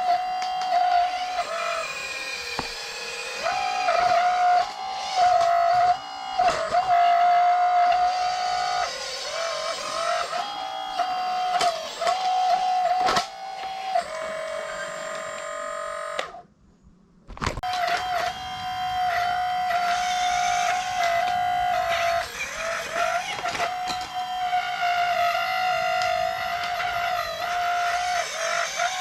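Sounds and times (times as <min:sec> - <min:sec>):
electric motors whining: 0:00.0 - 0:16.4, 0:17.6 - 0:29.0.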